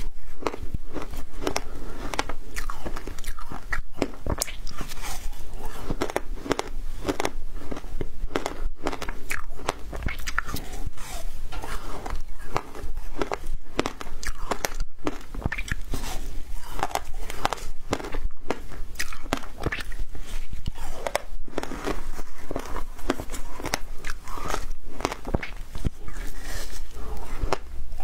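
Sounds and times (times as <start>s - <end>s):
ice crunching while chewed: 0.0s - 28.0s.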